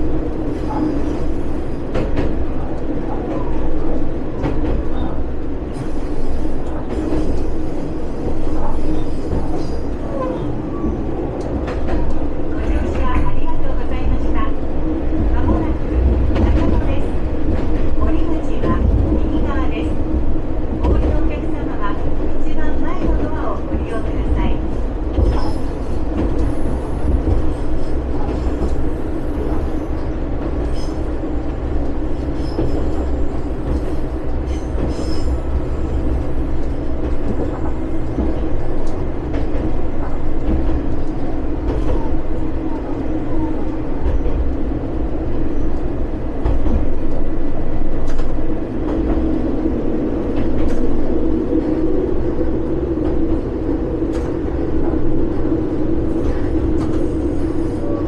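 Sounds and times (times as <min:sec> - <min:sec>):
diesel railcar engine and wheel rumble: 0:00.0 - 0:58.0.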